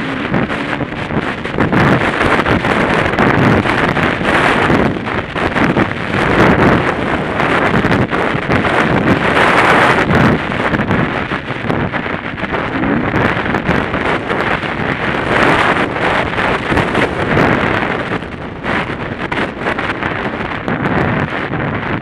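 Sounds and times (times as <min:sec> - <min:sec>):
dirt bike engine: 0:00.0 - 0:22.0
wind buffeting microphone: 0:00.0 - 0:22.0.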